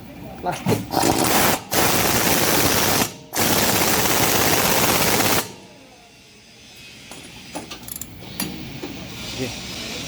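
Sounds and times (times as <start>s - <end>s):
pneumatic impact wrench hammering: 0.8s - 10.0s.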